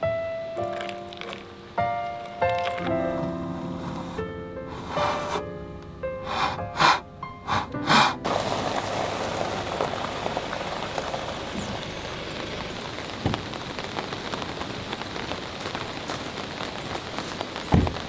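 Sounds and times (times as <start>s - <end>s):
steady rain: 0.0s - 5.4s, 6.2s - 18.0s.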